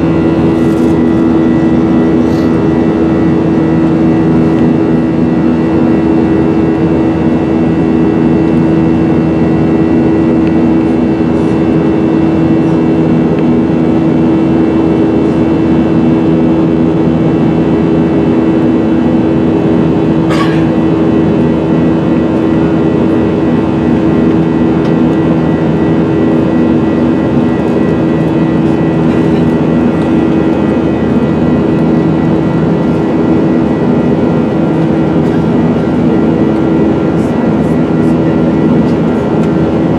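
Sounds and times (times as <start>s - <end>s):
vehicle interior drone: 0.0s - 39.9s.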